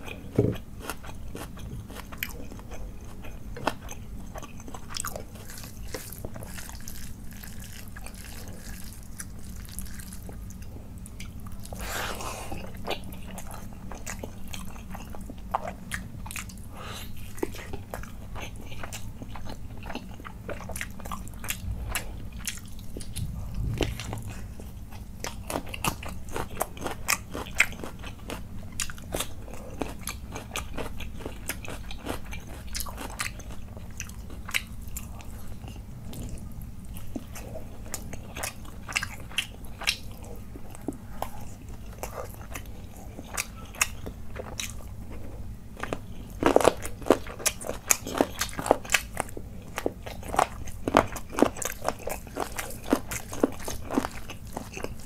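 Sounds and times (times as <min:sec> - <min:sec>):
man chewing and biting: 0:00.0 - 0:55.0.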